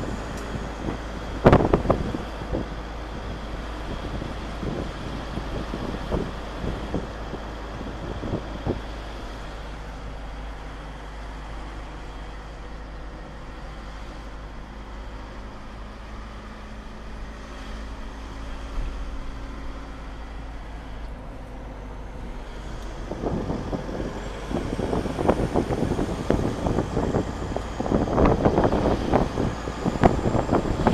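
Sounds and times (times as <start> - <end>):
vehicle engine and road noise: 0.0 - 30.9.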